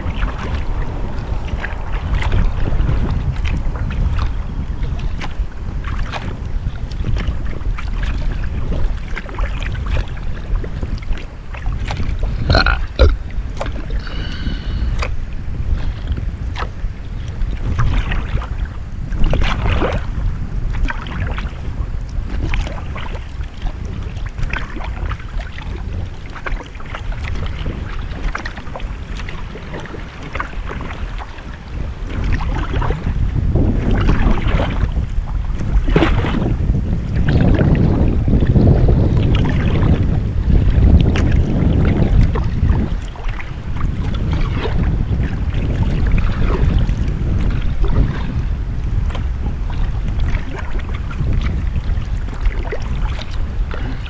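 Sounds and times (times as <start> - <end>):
paddle splashing in water: 0.0 - 54.0
wind on microphone: 0.0 - 54.0.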